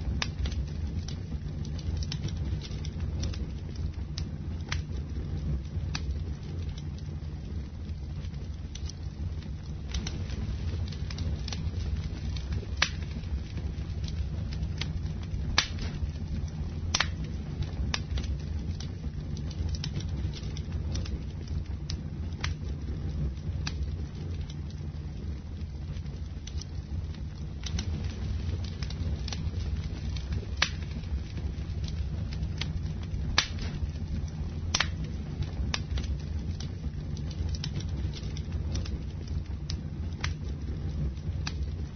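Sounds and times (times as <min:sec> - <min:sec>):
campfire flames rumbling: 0:00.0 - 0:41.9
fire crackles and pops: 0:00.0 - 0:41.9.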